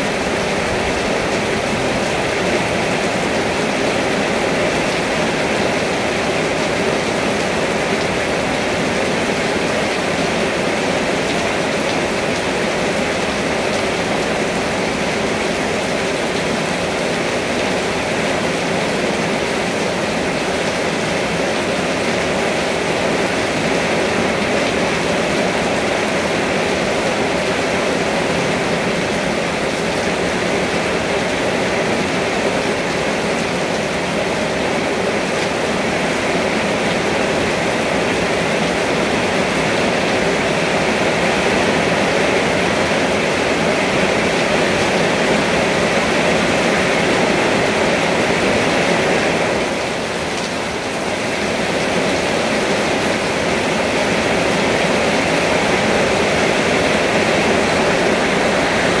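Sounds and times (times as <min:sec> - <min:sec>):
rain splashing on concrete: 0:00.0 - 0:59.0.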